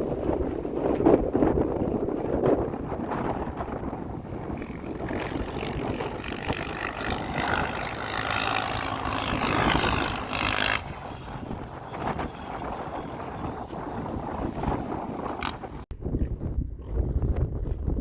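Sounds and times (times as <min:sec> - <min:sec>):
motorcycle engines running: 0:00.0 - 0:15.9.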